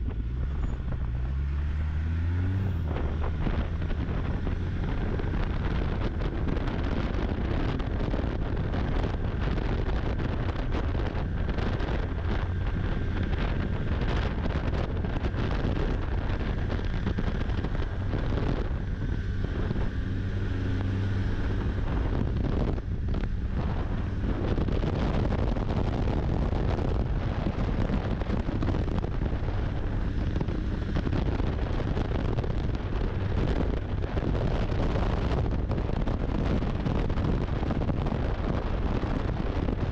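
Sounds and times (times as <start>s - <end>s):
snowmobile engine running: 0.0s - 39.9s
wind rushing over microphone: 0.0s - 39.9s.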